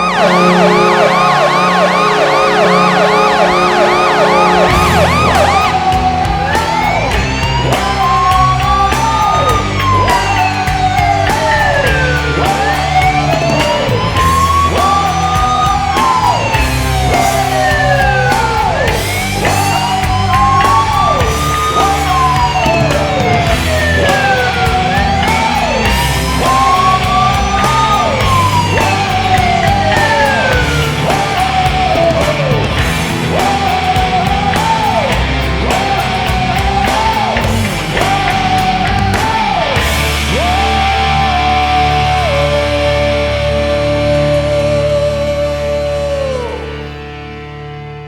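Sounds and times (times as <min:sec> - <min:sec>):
repeating guitar riff: 0:00.0 - 0:45.3
shouted vocals: 0:00.0 - 0:47.0
hard rock song over sound system: 0:00.0 - 0:48.0.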